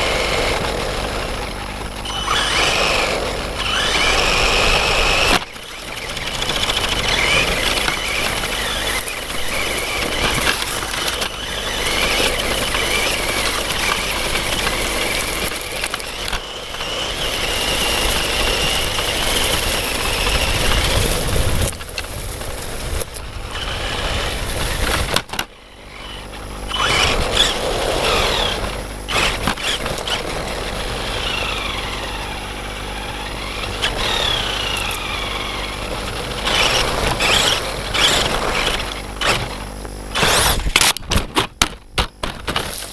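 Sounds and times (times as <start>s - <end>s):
electric motor whining: 0.0s - 42.8s
constant rushing noise: 0.0s - 42.9s.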